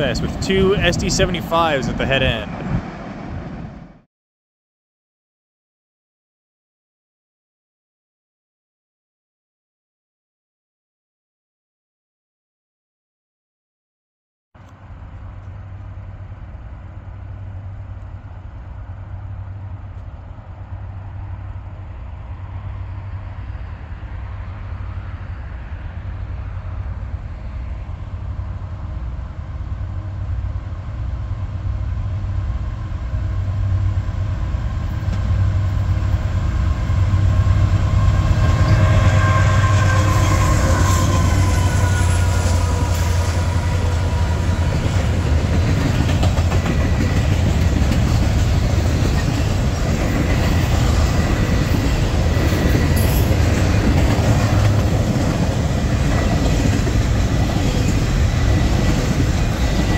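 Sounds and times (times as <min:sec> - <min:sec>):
diesel locomotive engine drone: 0:00.0 - 0:04.0, 0:14.6 - 0:59.9
rail and wheel noise: 0:00.0 - 0:04.1, 0:14.6 - 0:59.9.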